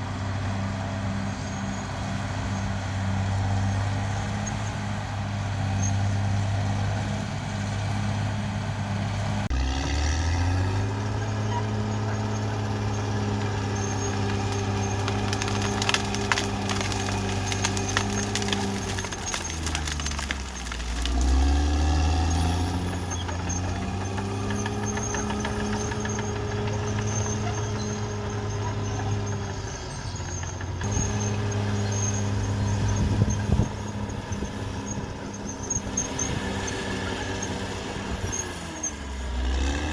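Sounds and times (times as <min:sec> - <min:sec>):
bulldozer diesel engine under load: 0:00.0 - 0:39.9
tracks clanking: 0:05.9 - 0:39.9.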